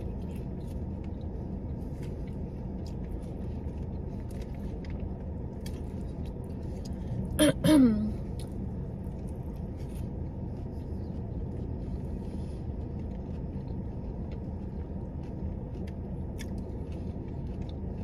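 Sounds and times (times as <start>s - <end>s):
quiet chewing: 0.0s - 7.4s, 8.2s - 18.0s
car engine low rumble: 0.0s - 18.0s.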